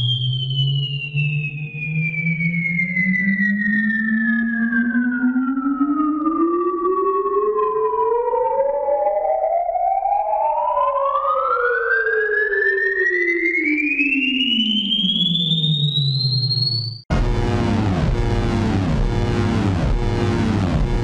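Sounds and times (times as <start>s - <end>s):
falling electronic tone: 0.0s - 21.0s
rising electronic tone: 0.0s - 21.0s.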